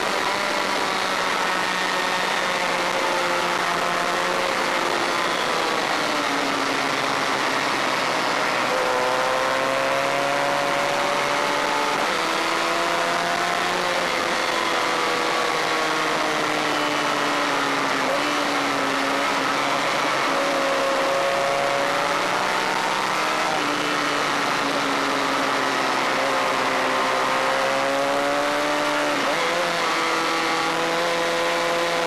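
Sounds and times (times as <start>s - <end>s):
race bike engine at speed: 0.0s - 32.0s.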